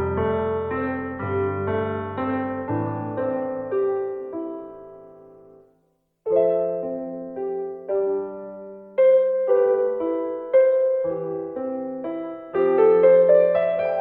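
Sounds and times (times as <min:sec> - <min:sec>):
gentle keyboard piano melody: 0:00.0 - 0:14.0.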